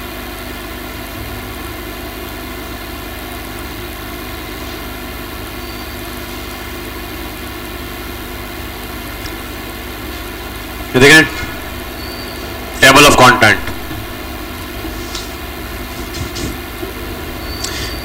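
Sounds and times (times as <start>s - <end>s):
buzzing electrical hum: 0.0s - 18.0s.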